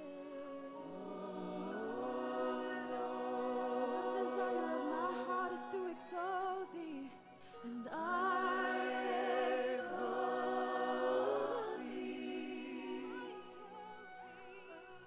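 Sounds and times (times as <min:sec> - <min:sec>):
worship music with singing voices: 0:00.0 - 0:15.0.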